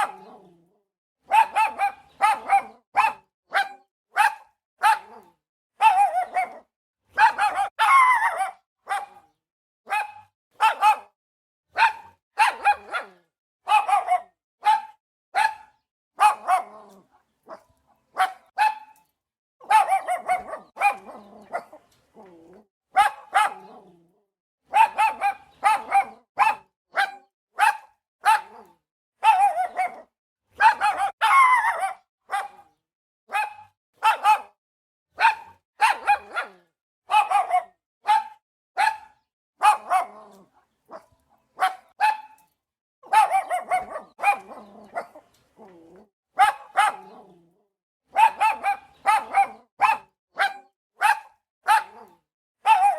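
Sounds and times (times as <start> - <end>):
dog barking: 0.0 - 0.5, 1.2 - 19.0, 19.6 - 24.0, 24.7 - 42.4, 43.0 - 47.4, 48.1 - 52.9.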